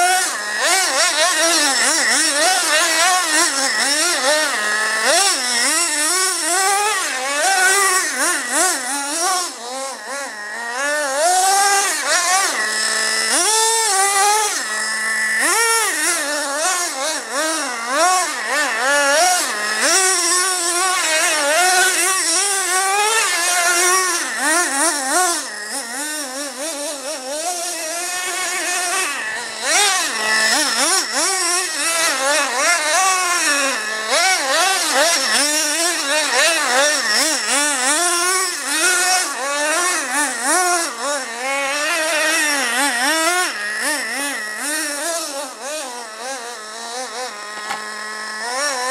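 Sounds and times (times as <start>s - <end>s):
nitro engine revving: 0.0s - 48.9s.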